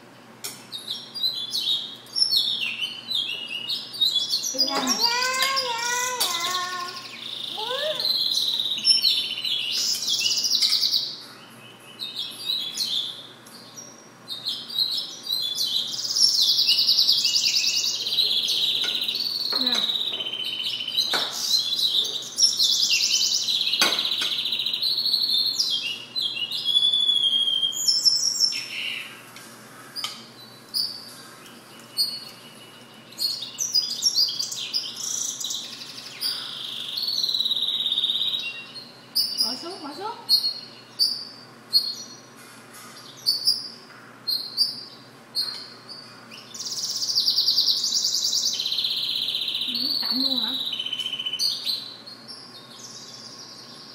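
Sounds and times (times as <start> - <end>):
bird twittering song: 0.5 - 53.9.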